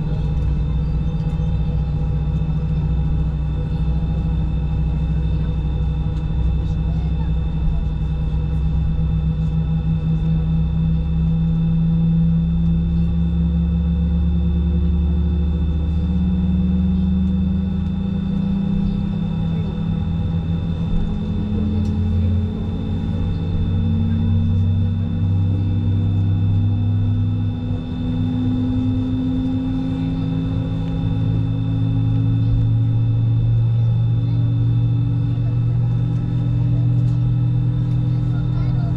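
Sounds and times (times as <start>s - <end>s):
jet cabin engine drone: 0.0s - 38.9s.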